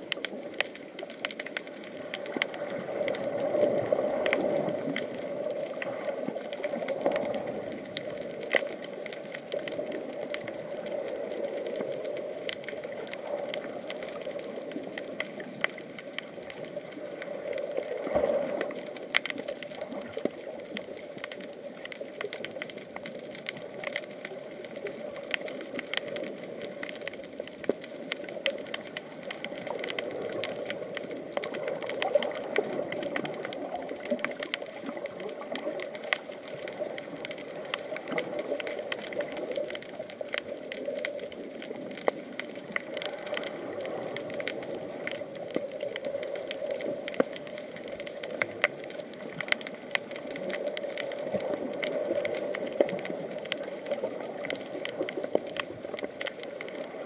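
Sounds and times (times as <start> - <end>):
sharp clicks and crackles: 0.0 - 57.0
underwater hum: 0.0 - 57.0.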